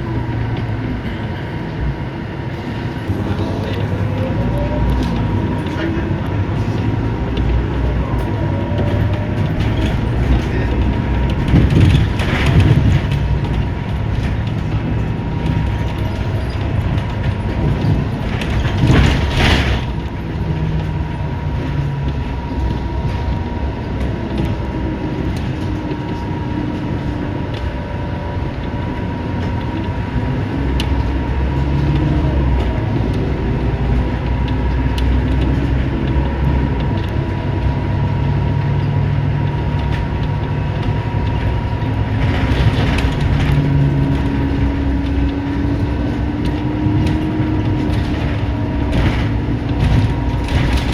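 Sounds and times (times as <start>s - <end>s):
bus diesel engine: 0.0s - 50.9s
low road rumble: 0.0s - 50.9s.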